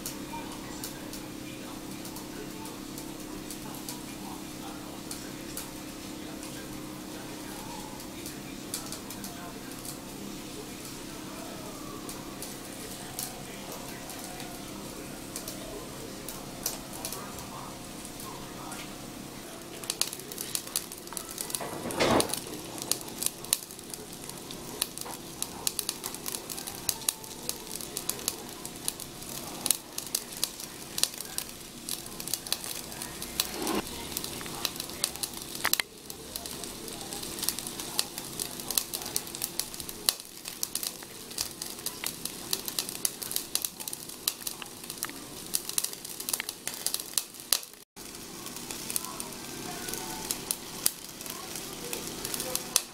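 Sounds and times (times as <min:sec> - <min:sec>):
meat sizzling and crackling: 0:00.0 - 0:52.9
steady fan hum: 0:00.0 - 0:52.9.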